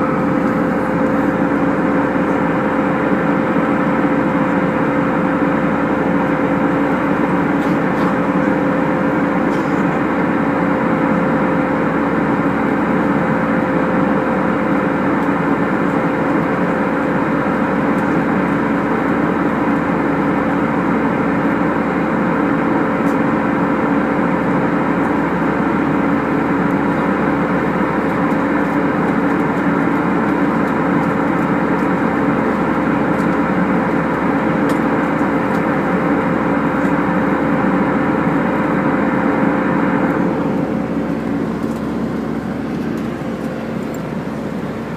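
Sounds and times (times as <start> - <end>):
airliner cabin engine drone: 0.0 - 44.9.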